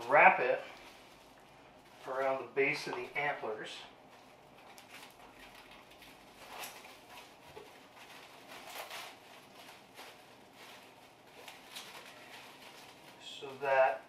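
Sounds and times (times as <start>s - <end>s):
plastic cling wrap rustling: 0.0s - 14.0s.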